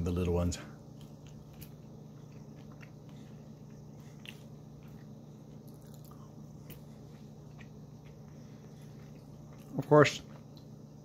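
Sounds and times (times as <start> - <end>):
person chewing fries: 0.8 - 11.0.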